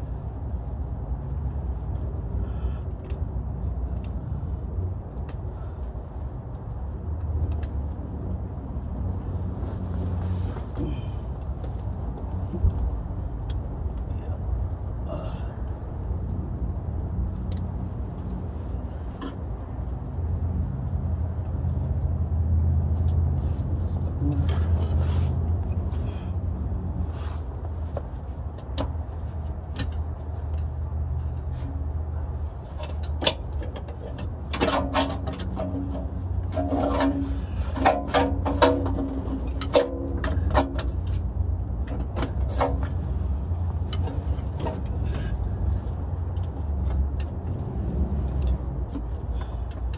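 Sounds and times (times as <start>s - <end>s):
steady low rumble: 0.0s - 49.9s.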